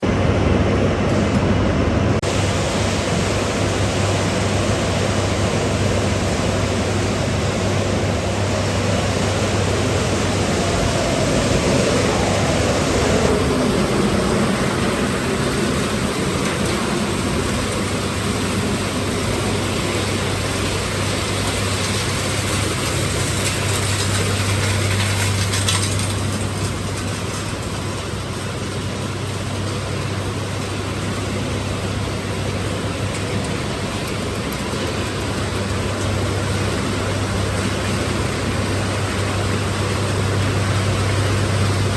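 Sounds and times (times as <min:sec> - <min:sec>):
constant low hum: 0:00.0 - 0:41.9
shredding and crushing machinery: 0:07.2 - 0:41.9.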